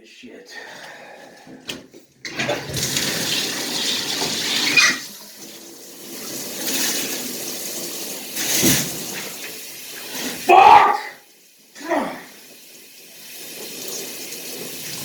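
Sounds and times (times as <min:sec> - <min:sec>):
shower water splashing: 0:02.3 - 0:15.0.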